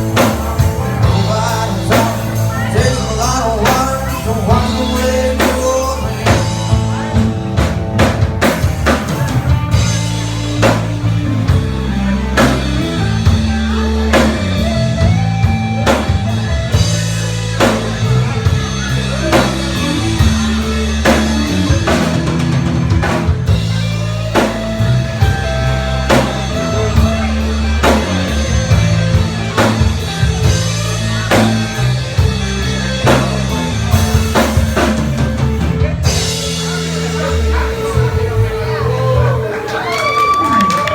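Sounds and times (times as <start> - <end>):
drum kit beat: 0.0 - 39.9
rock band instrumental: 0.0 - 40.9.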